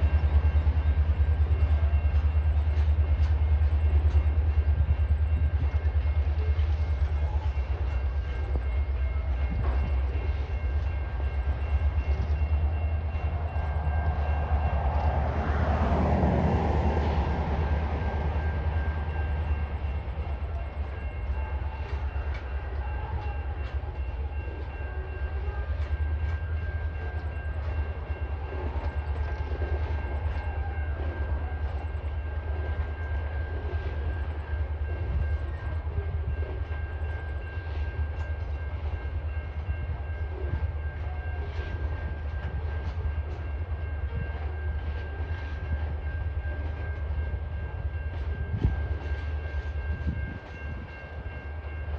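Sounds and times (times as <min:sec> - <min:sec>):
freight train wagons rumbling: 0:00.0 - 0:51.9.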